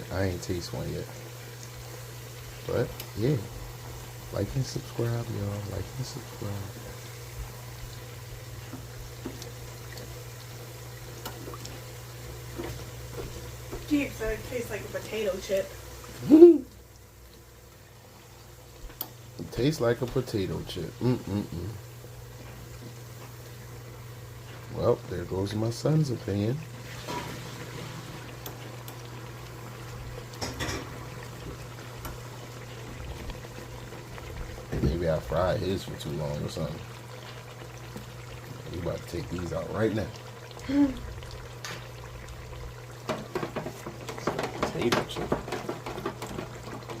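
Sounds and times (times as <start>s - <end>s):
dough frying in hot oil: 0.0s - 47.0s.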